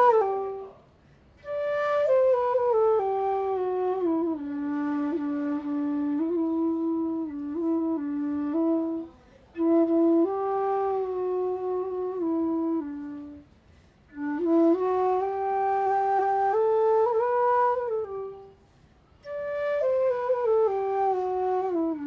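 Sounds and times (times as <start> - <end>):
slow flute-like woodwind melody: 0.0 - 22.0.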